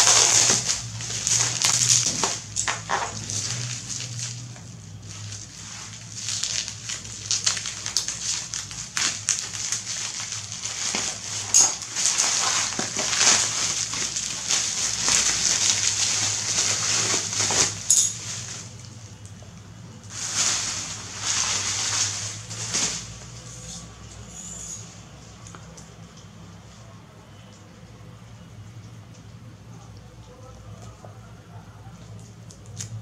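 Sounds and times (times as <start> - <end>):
bubble wrap crinkling and snapping: 0.0 - 24.2, 30.5 - 33.0.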